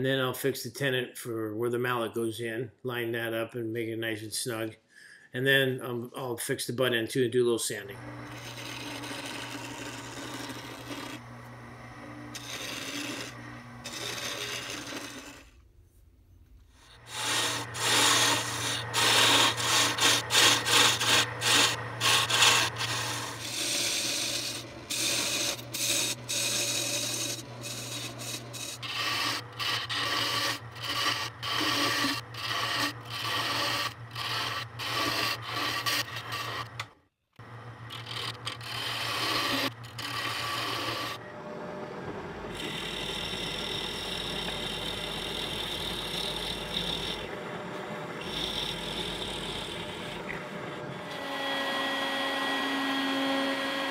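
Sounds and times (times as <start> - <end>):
lathe motor hum: 8.0 - 15.6, 16.8 - 53.9
turning tool scraping wood: 8.0 - 15.7, 16.6 - 53.9.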